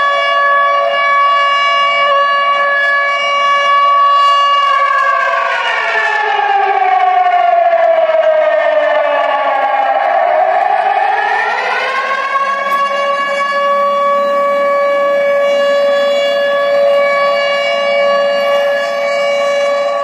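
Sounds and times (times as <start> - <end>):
air-raid siren over loudspeakers: 0.0 - 20.0.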